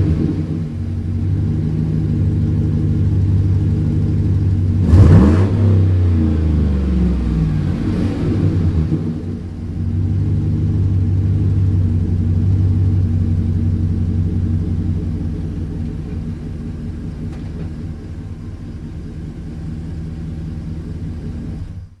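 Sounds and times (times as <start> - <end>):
truck engine low rumble: 0.0 - 22.0.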